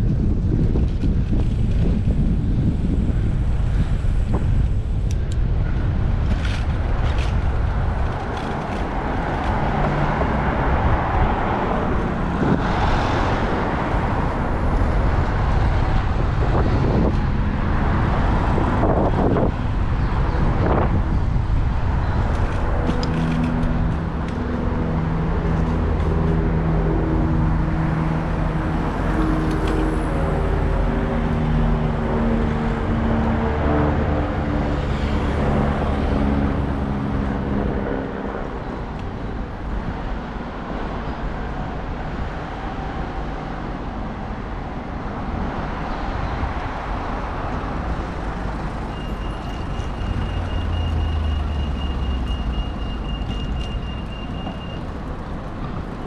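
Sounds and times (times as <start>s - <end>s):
vehicle engine humming: 0.0s - 40.0s, 46.2s - 56.0s
city traffic: 0.0s - 56.0s
wind rumble on microphone: 0.0s - 56.0s.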